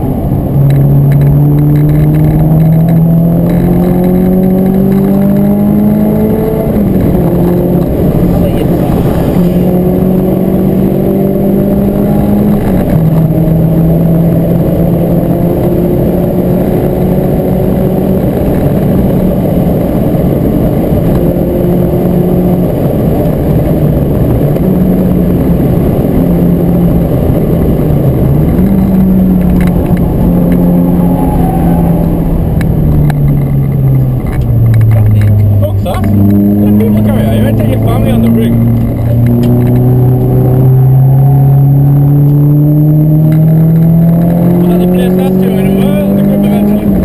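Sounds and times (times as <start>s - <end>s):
car engine running hard: 0.0s - 47.0s
road and wind noise: 0.0s - 47.0s.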